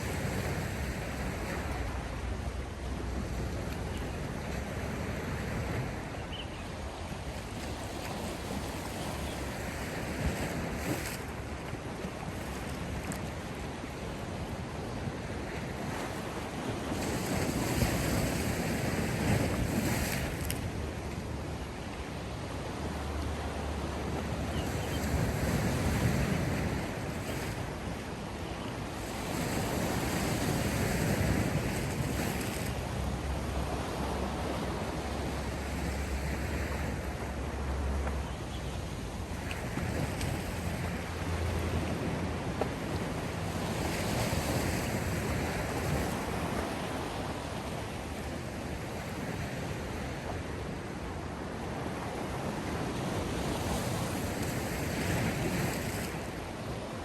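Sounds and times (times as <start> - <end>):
sea waves washing ashore: 0.0 - 57.0.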